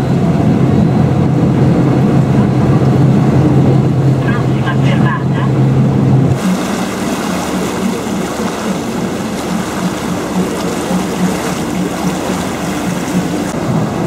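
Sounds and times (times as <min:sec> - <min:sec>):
boat engine humming: 0:00.0 - 0:14.0
water rushing along hull: 0:00.0 - 0:14.0.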